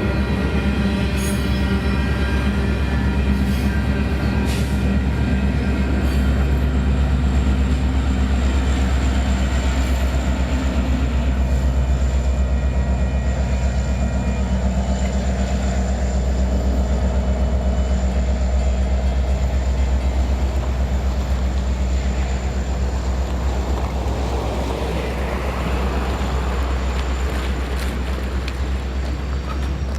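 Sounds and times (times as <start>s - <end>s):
freight train rumbling past: 0.0s - 29.9s
wheels clacking on rails: 0.0s - 29.9s.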